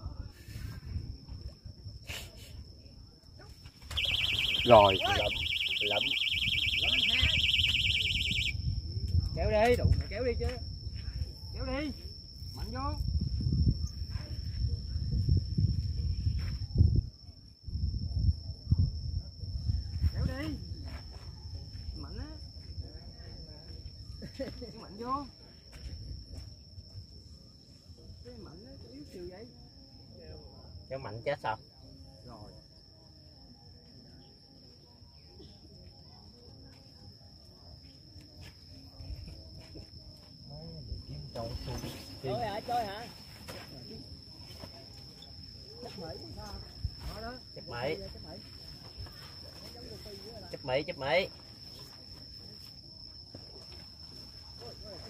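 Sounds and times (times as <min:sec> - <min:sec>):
high-pitched insect drone: 0:00.0 - 0:55.0.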